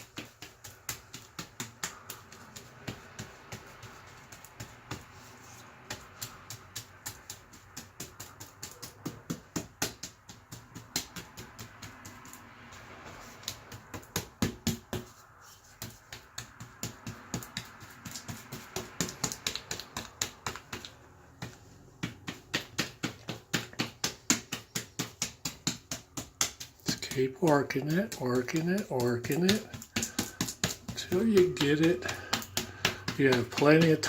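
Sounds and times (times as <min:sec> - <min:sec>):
brush dabbing wet compound on wall: 0:00.0 - 0:34.0.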